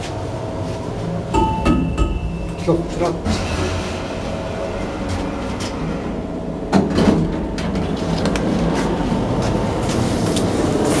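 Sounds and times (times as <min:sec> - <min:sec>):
mechanical rumble and hum: 0:00.0 - 0:11.0.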